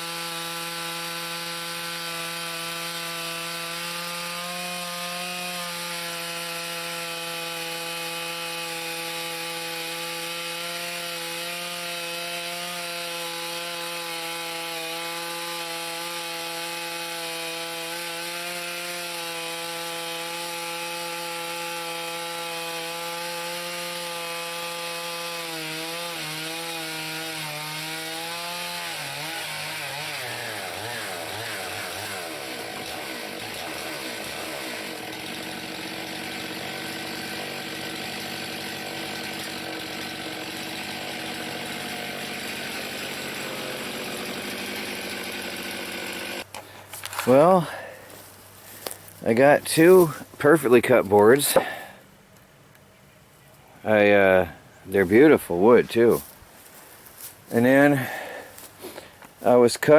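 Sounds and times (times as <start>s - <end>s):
chainsaw ripping a log: 0.0s - 52.0s, 54.9s - 59.9s.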